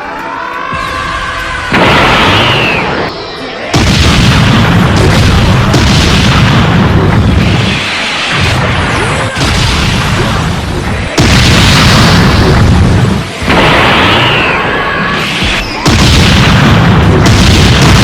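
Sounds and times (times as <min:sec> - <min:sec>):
anime booming blasts and impacts: 0:01.7 - 0:03.1, 0:03.7 - 0:18.0.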